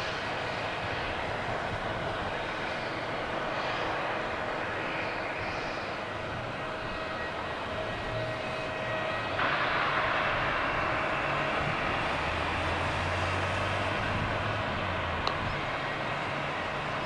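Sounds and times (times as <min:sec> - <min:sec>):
jet engines rushing hiss: 0:00.0 - 0:17.0
low hum: 0:00.0 - 0:17.0.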